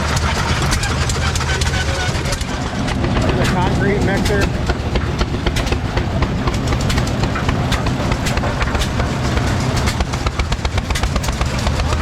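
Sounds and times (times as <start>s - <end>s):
concrete mixer engine rumbling: 0.0s - 12.0s
rattle of clicks: 0.0s - 12.0s.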